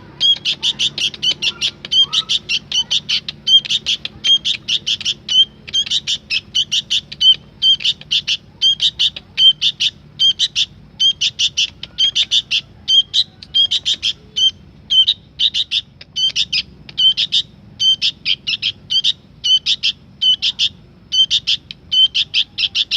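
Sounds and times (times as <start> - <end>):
bulbul chirping: 0.0 - 22.9.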